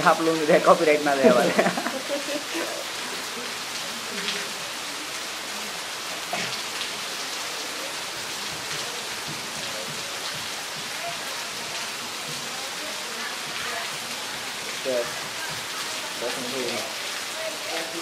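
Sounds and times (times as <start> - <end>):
rain on flooded road: 0.0 - 18.0.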